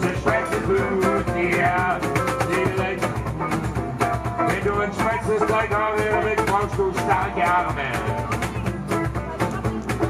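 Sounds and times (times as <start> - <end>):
man singing: 0.0 - 8.3
acoustic guitar: 0.0 - 10.0
cajon beat: 0.0 - 10.0
double bass: 0.0 - 10.0.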